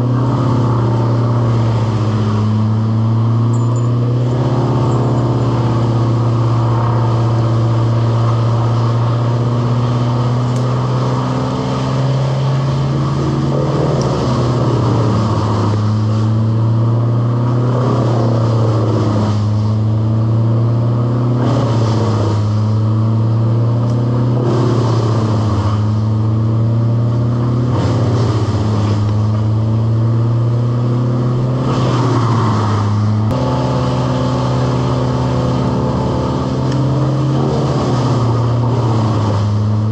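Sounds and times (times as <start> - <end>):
engine running at high speed: 0.0 - 39.9.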